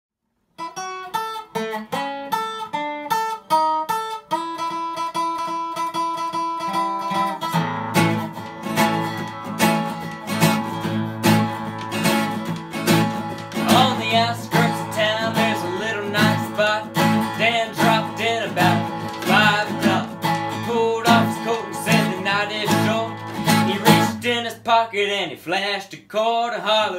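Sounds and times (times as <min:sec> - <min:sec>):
strummed guitar chords: 0:00.7 - 0:25.4
picked guitar lead line: 0:00.8 - 0:25.2.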